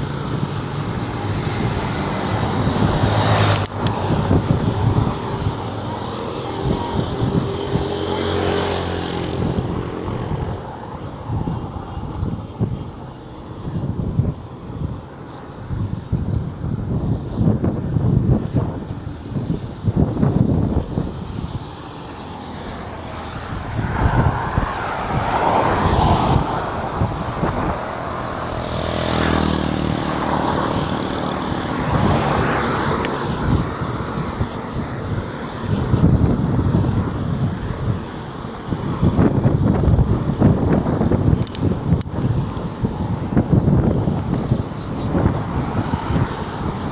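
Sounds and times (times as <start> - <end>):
vehicles passing on highway: 0.0 - 46.9
wind buffeting microphone: 0.0 - 46.9.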